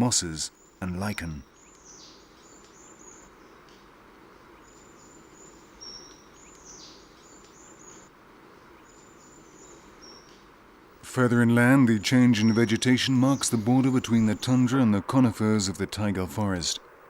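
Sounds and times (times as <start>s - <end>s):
birds chirping: 0.0s - 17.0s
faint outdoor hiss: 0.0s - 17.0s.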